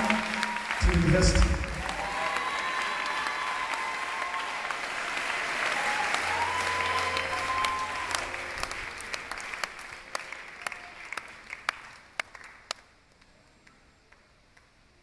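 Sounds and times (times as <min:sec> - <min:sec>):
congregation applauding: 0:00.0 - 0:14.8.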